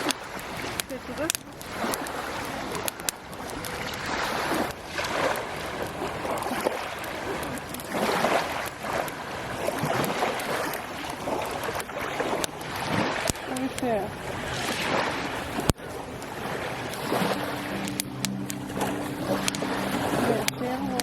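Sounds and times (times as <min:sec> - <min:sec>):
waves washing onto shore: 0:00.0 - 0:21.0
wind on microphone: 0:00.0 - 0:21.0.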